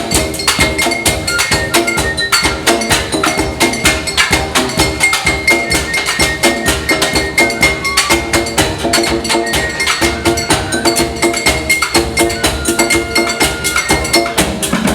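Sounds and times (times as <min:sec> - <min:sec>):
percussion music: 0:00.0 - 0:14.9.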